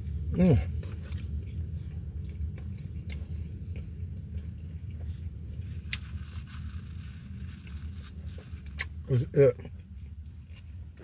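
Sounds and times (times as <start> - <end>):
soft wet chewing: 0.0 - 11.0
steady low hum: 0.0 - 11.0.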